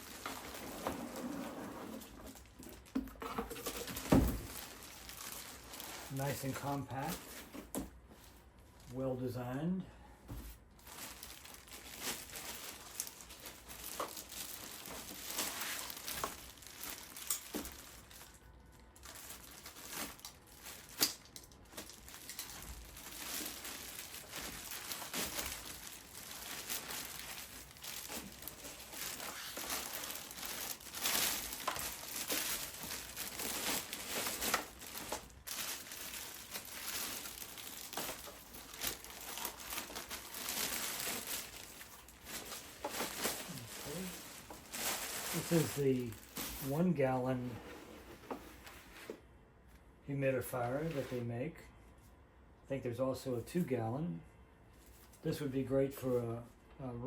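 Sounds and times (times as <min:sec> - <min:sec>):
packaging crinkling and rustling: 0:00.0 - 0:08.9, 0:10.7 - 0:49.1.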